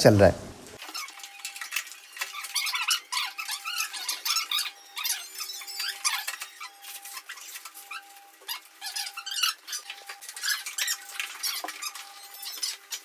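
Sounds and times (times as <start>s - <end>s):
plastic casing creaking and squeaking: 0.8s - 13.0s.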